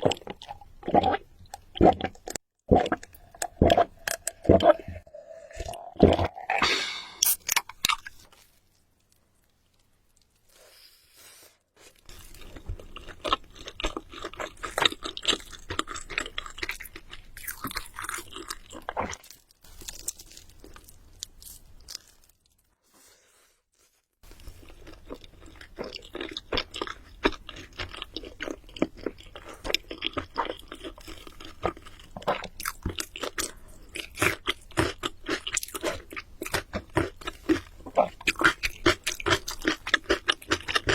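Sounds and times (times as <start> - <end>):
person chewing crunchy food: 0.0 - 11.2, 11.8 - 40.9.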